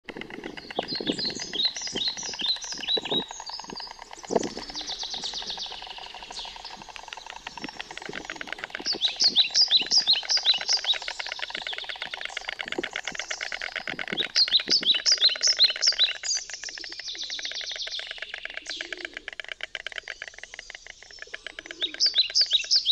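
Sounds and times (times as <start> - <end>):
birds chirping rapidly: 0.0 - 22.9.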